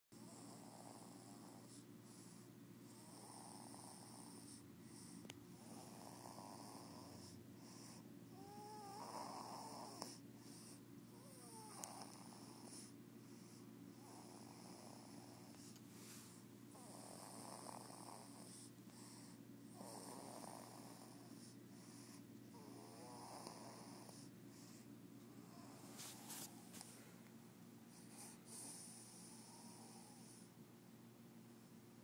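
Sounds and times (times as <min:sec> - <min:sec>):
baby snoring: 0:00.2 - 0:15.8, 0:16.7 - 0:24.8, 0:25.4 - 0:26.8, 0:28.0 - 0:30.5.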